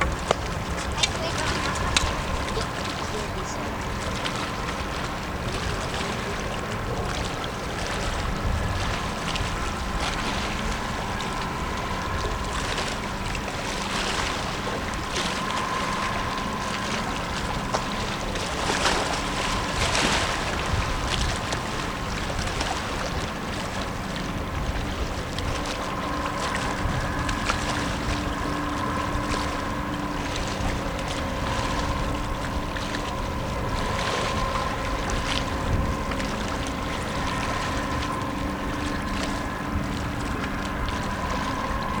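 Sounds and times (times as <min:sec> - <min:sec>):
diesel engines humming: 0:00.0 - 0:42.0
water wash: 0:00.0 - 0:42.0
wind noise on microphone: 0:00.0 - 0:42.0.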